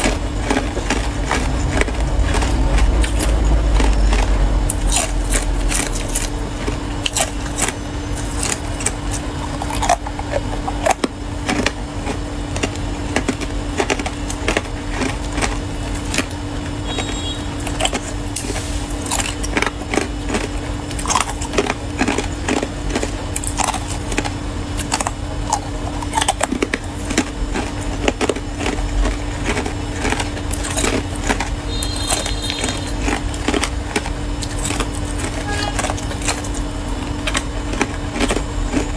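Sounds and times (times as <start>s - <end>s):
ice cubes crunching: 0.0s - 38.9s
low hum: 0.0s - 38.9s.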